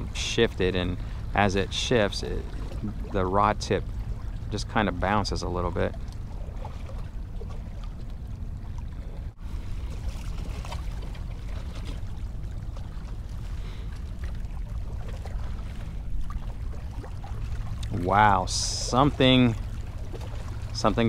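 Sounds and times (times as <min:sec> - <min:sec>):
water lapping against rocks: 0:00.0 - 0:21.0.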